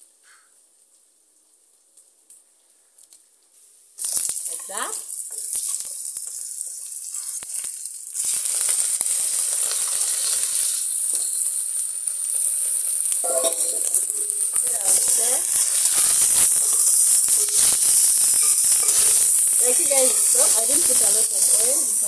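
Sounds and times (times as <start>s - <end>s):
meat sizzling in hot oil: 1.5s - 22.0s.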